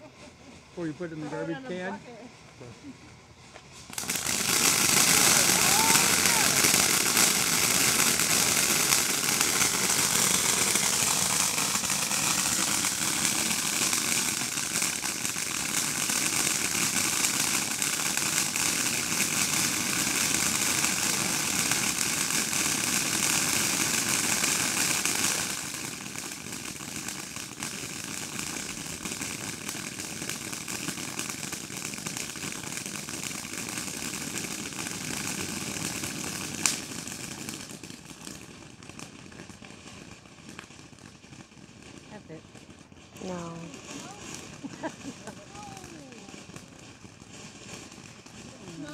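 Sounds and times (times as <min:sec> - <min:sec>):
firework fountain hissing: 0:00.0 - 0:48.9.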